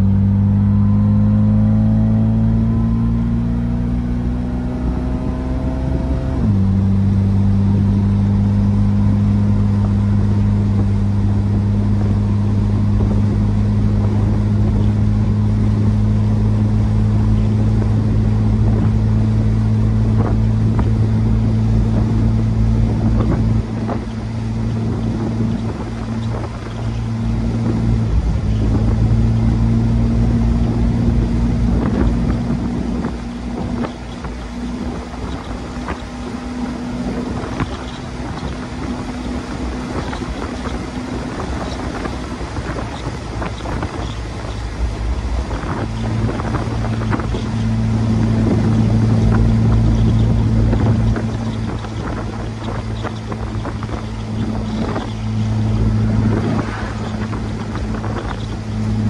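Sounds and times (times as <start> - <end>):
car engine at highway speed: 0.0 - 59.0
wind noise on microphone: 0.0 - 59.0.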